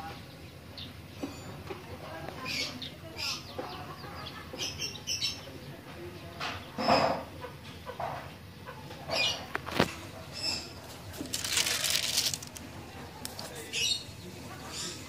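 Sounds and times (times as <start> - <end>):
birds chirping and clucking: 0.0 - 15.0.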